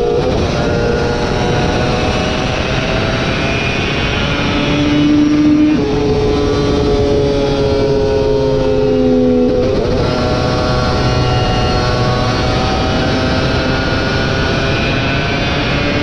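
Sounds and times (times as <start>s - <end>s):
racing motorcycle engine: 0.0s - 16.0s.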